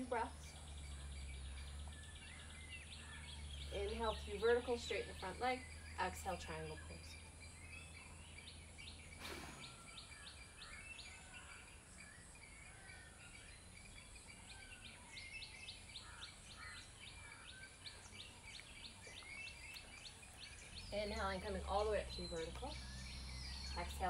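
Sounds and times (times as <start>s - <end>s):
bird chirps: 0.0s - 24.0s
birds calling: 0.0s - 24.0s.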